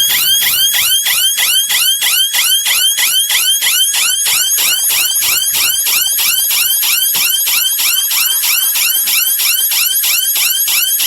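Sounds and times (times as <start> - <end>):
warbling electronic alarm siren: 0.0 - 11.0.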